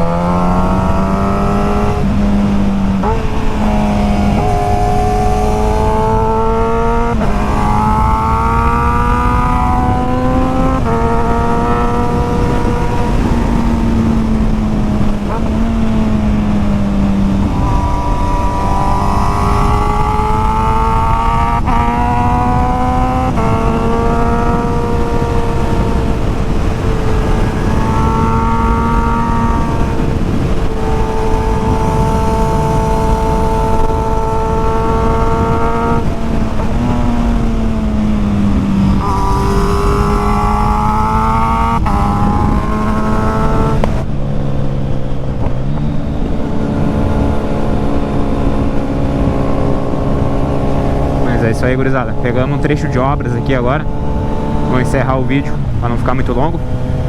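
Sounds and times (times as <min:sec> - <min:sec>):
motorcycle engine through gears: 0:00.0 - 0:57.0
wind noise: 0:00.0 - 0:57.0.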